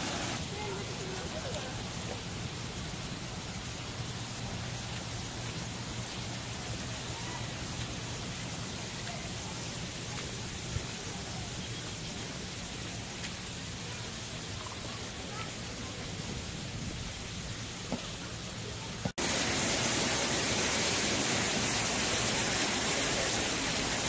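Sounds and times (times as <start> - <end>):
light rain on pavement: 0.0 - 24.0.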